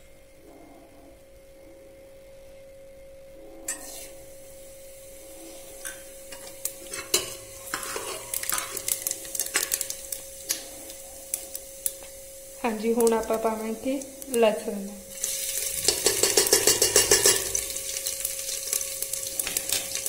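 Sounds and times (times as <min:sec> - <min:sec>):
seeds sizzling in hot oil: 0:03.7 - 0:20.0.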